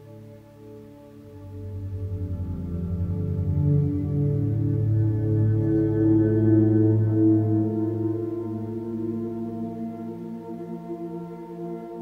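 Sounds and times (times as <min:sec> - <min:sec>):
ambient music with held tones: 0:00.0 - 0:12.0.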